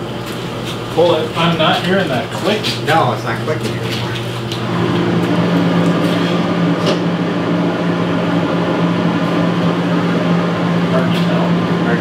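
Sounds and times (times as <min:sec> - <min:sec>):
fridge compressor humming: 0:00.0 - 0:12.0.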